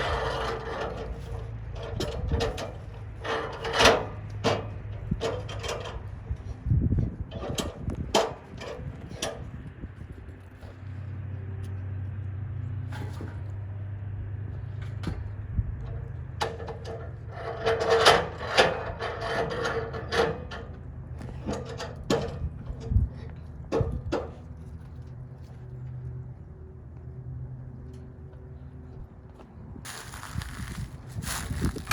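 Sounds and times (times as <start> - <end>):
low engine hum: 0.0 - 19.0, 19.8 - 31.9.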